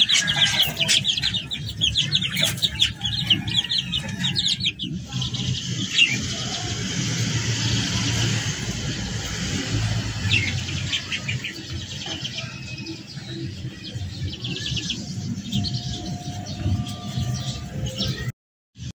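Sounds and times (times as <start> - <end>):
small birds chirping: 0.0 - 18.3.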